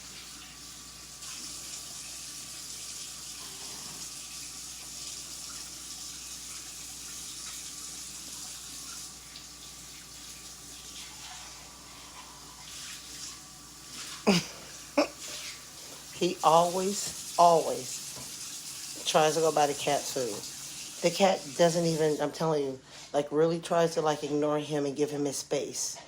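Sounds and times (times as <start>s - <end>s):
running water hiss: 0.0s - 23.1s.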